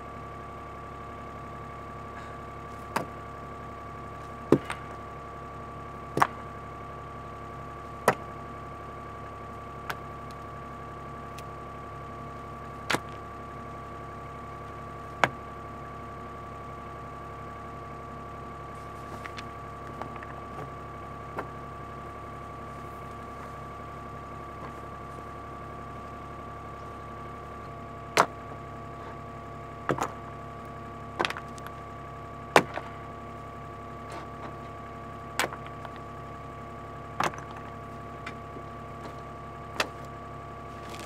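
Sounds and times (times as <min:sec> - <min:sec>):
excavator engine whining: 0:00.0 - 0:41.0.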